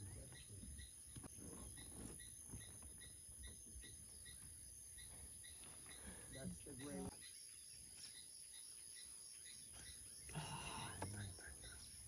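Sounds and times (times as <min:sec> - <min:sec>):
high insect drone: 0:00.0 - 0:12.0
short insect chirp: 0:00.0 - 0:12.0.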